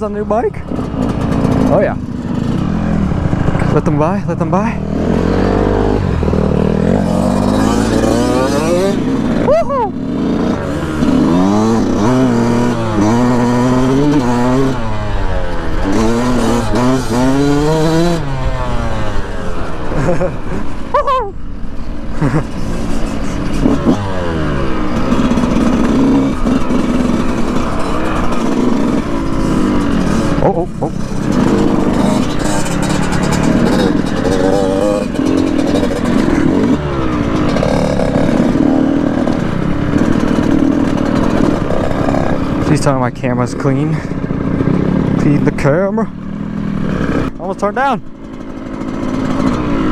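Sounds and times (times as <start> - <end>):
dirt bike engine accelerating: 0.0 - 49.9.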